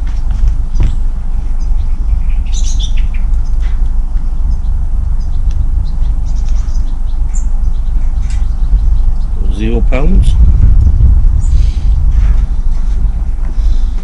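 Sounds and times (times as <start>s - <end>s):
loud steady low rumble: 0.0s - 14.0s
small birds chirping: 0.0s - 14.0s.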